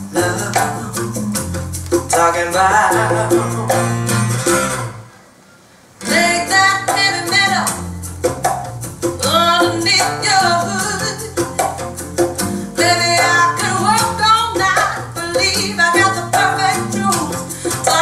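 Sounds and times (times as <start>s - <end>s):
song with guitar over loudspeakers: 0.0s - 5.2s, 6.0s - 18.0s.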